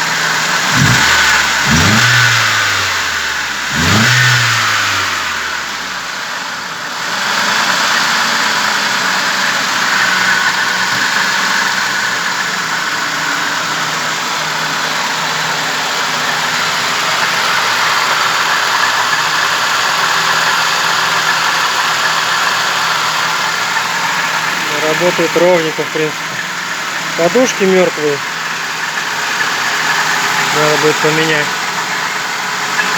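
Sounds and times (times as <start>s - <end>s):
petrol engine idling: 0.0s - 32.9s.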